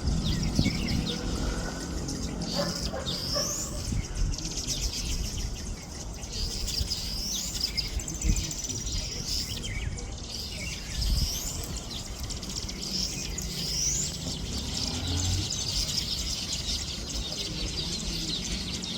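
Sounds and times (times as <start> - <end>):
weaver birds chattering: 0.0 - 18.9.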